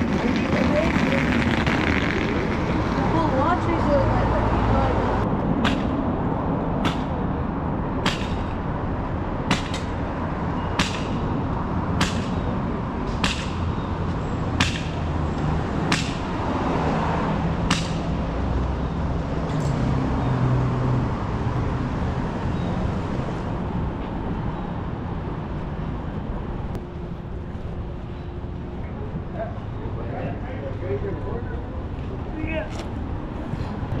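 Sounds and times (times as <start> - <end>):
low engine hum: 0.0 - 34.0
street traffic: 0.0 - 34.0.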